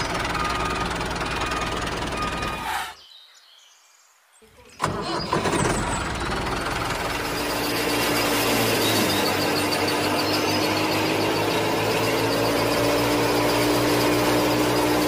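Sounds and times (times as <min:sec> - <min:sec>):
engine running: 0:00.0 - 0:03.0, 0:04.8 - 0:15.0.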